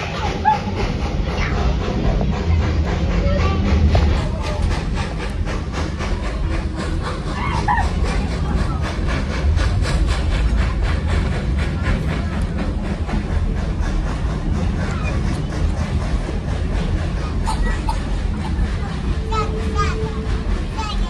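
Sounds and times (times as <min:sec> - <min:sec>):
clickety-clack of wheels: 0:00.0 - 0:21.0
train car rumbling: 0:00.0 - 0:21.0.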